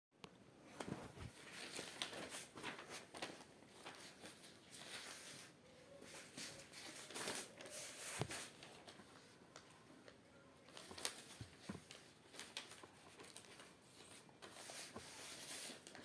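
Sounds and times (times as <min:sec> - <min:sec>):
paper rustling and creasing: 0:00.7 - 0:09.7, 0:10.7 - 0:16.0.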